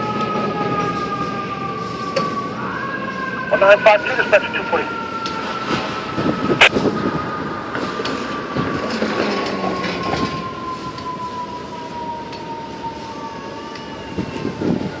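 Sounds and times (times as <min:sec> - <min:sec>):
fire truck siren: 0:00.0 - 0:15.0
street traffic: 0:00.0 - 0:15.0.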